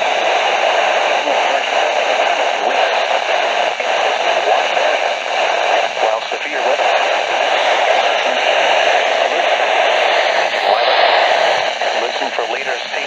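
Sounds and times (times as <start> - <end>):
faint broadcast voice: 0.0 - 13.0
radio static hissing: 0.0 - 13.0.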